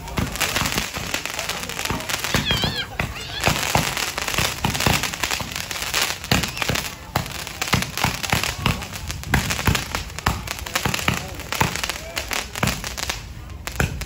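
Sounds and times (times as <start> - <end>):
fireworks bangs and pops: 0.0 - 14.0
fireworks crackling: 0.0 - 14.0.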